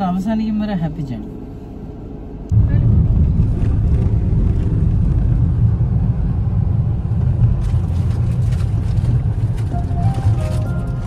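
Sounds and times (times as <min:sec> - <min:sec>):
road and wind noise inside car: 0:00.0 - 0:11.0.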